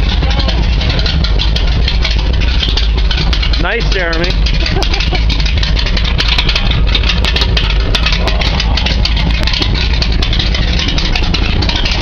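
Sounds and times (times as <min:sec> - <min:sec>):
car engine idling with crackles: 0:00.0 - 0:12.0.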